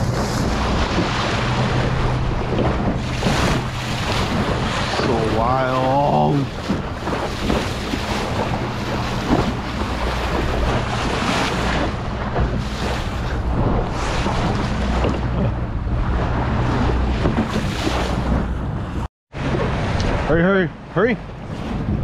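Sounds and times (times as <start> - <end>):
outboard motor humming: 0.0 - 22.0
water rushing and splashing: 0.0 - 22.0
wind gusts on microphone: 0.0 - 22.0.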